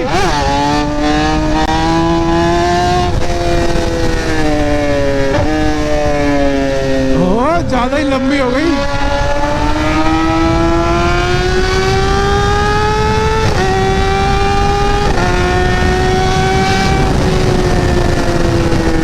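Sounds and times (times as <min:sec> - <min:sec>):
motorcycle engine accelerating: 0:00.0 - 0:19.0
wind rush on microphone: 0:00.0 - 0:19.0.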